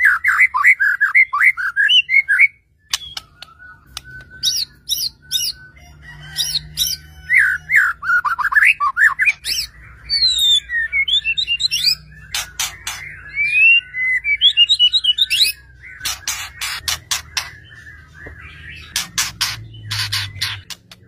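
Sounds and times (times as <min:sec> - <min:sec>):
songbird whistling and trilling: 0:00.0 - 0:21.0.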